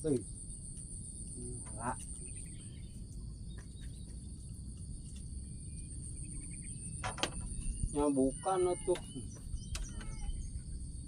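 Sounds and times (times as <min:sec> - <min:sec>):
faint bird chirps: 0:00.0 - 0:11.0
insects chirring: 0:00.0 - 0:11.0
low outdoor rumble: 0:00.0 - 0:11.0.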